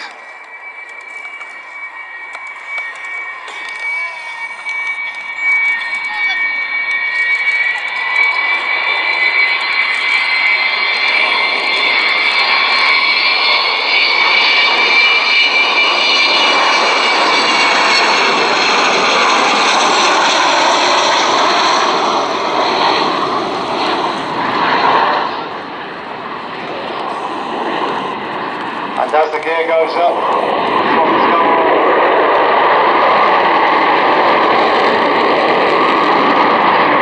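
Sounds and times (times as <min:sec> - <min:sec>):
high engine whine: 0:00.0 - 0:37.0
jet engines roaring: 0:00.0 - 0:37.0.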